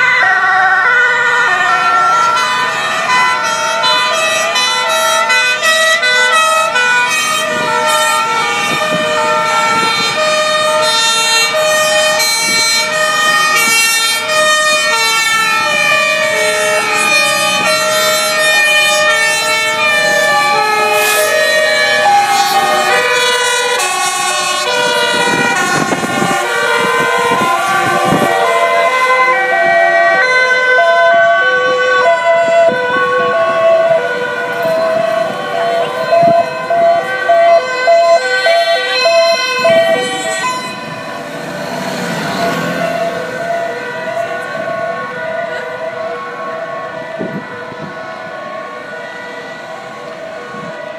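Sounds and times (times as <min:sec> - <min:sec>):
passing traffic: 0:00.0 - 0:50.9
two-tone sirens: 0:00.0 - 0:50.9.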